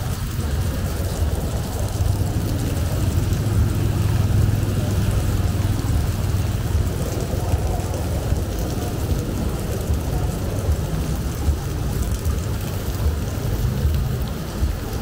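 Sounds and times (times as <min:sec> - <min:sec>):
deep rumble: 0:00.0 - 0:15.0
rain falling: 0:00.0 - 0:15.0.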